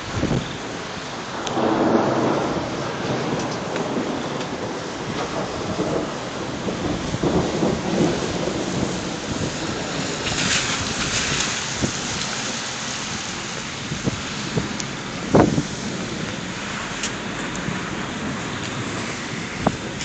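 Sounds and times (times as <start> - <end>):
storm noise: 0.0 - 20.0
thunder rumbling: 0.0 - 20.0.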